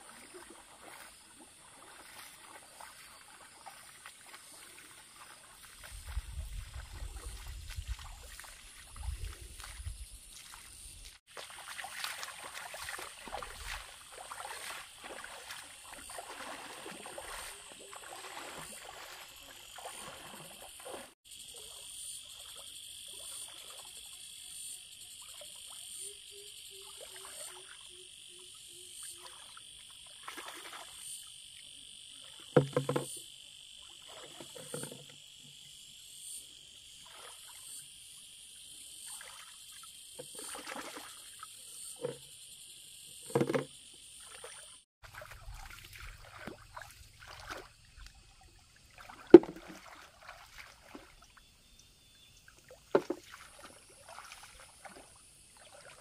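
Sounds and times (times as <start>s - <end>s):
steady insect trill: 0.0s - 56.0s.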